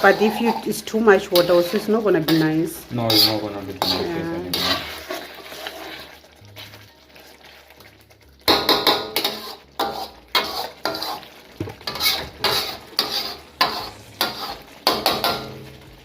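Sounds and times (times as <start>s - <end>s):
spoon scraping a pot: 0.0s - 6.7s, 8.6s - 15.5s
gravy sizzling: 0.0s - 16.0s.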